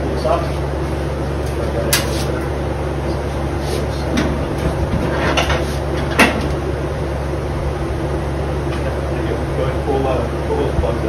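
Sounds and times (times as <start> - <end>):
cooler fan hum: 0.0 - 11.0.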